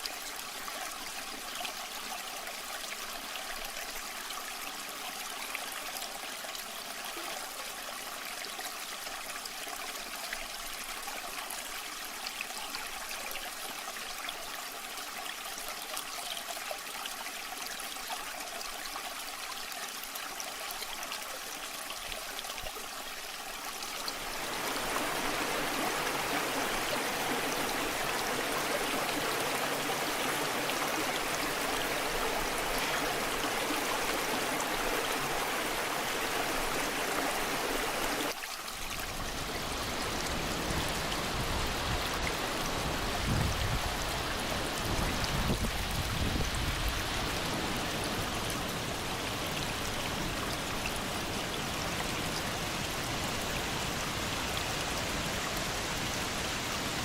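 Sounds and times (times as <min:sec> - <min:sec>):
waterfall flowing: 0:00.0 - 0:57.0.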